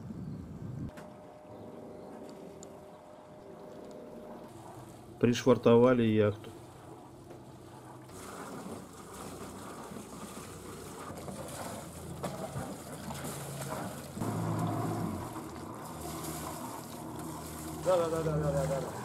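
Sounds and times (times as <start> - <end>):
water noise: 0.0 - 19.0
wind: 0.0 - 19.0
boat engine running: 0.9 - 19.0.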